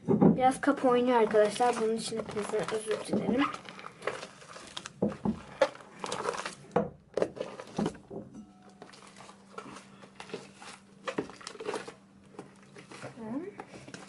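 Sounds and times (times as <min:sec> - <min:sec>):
slime squelching and crackling: 0:00.4 - 0:08.1, 0:08.8 - 0:14.0.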